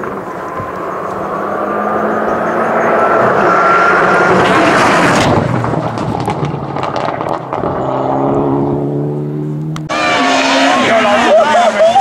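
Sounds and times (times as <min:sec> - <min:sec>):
rally car engine and tyre noise: 0:00.0 - 0:12.0.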